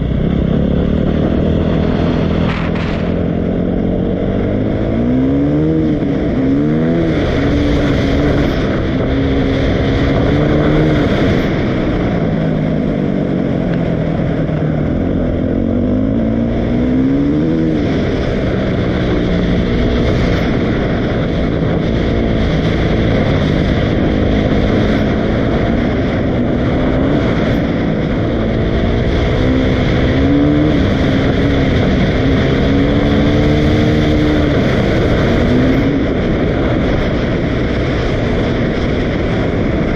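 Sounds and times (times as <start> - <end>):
dirt bike engine revving: 0.0 - 12.2, 15.0 - 39.4.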